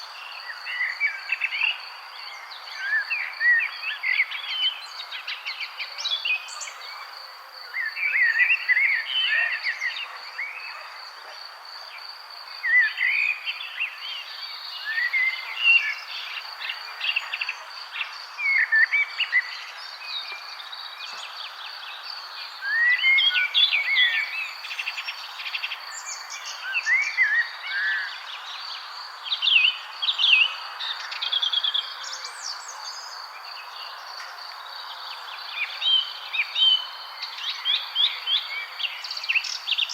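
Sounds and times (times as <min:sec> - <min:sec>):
songbirds warbling and chirping: 0:00.0 - 0:39.9.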